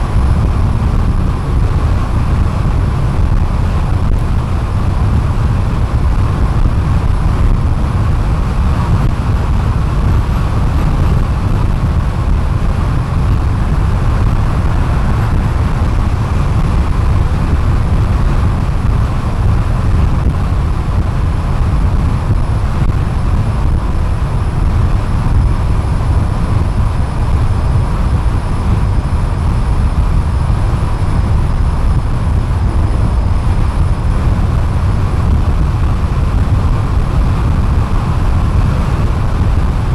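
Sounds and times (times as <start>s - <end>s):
car driving at highway speed: 0.0s - 39.9s.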